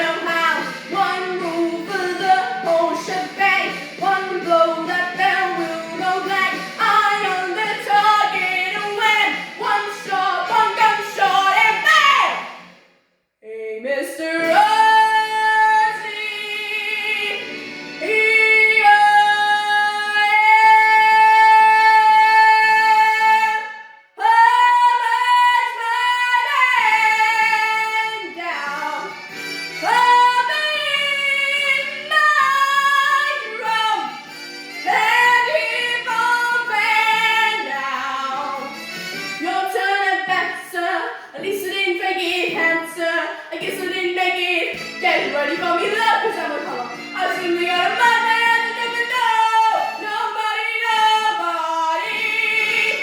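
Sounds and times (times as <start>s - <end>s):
girl singing a show tune: 0.0s - 12.5s, 13.4s - 29.2s, 29.8s - 34.2s, 34.8s - 38.7s, 39.4s - 53.0s.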